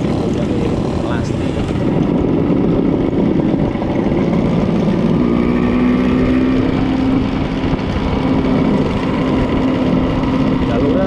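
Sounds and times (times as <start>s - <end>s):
scooter engine running: 0.0s - 11.0s
wind rushing over microphone: 0.0s - 11.0s.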